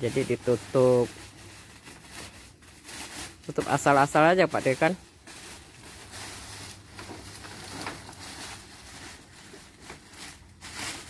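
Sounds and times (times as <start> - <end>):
plastic bag rustling and crinkling: 0.0 - 11.0.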